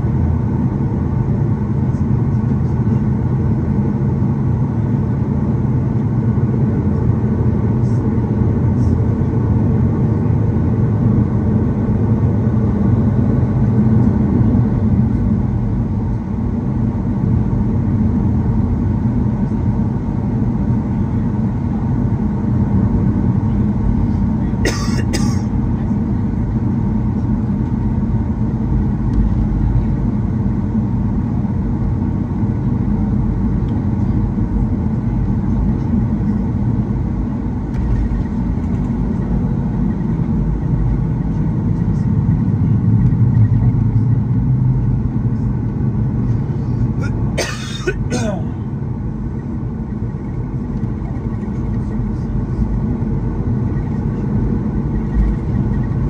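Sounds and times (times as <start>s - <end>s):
jet engines rumbling at idle: 0.0s - 56.0s.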